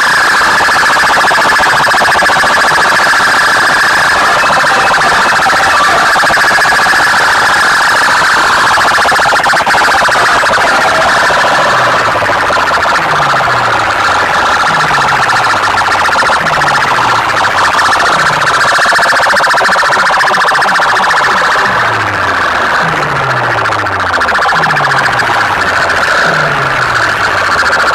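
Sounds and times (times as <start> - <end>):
buzzing siren-like electronic tone: 0.0 - 27.9.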